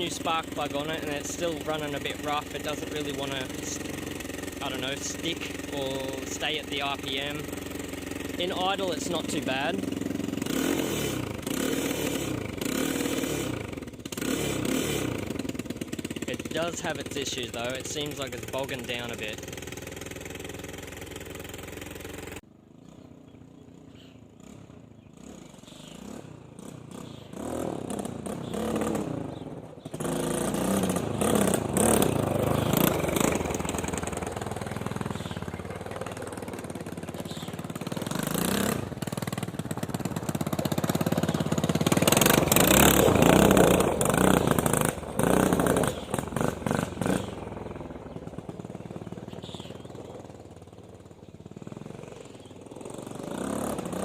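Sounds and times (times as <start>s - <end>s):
quad bike engine running rough: 0.0s - 54.0s.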